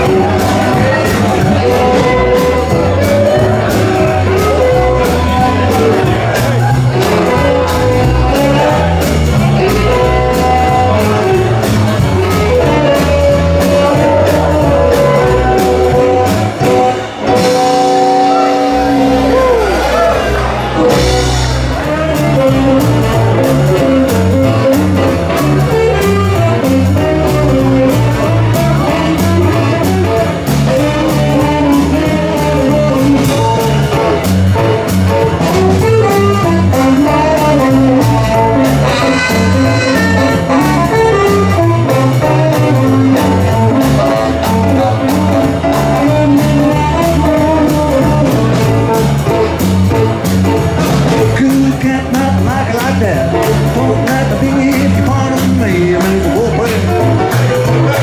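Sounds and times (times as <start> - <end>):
swing blues band playing: 0.0 - 58.0.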